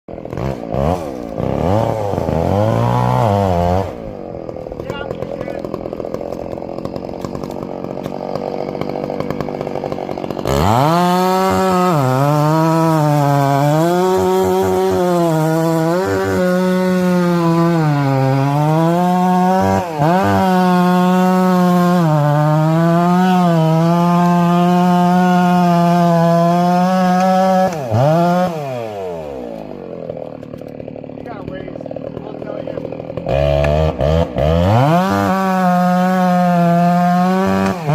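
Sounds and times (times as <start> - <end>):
chainsaw cutting wood: 0.1 - 37.9.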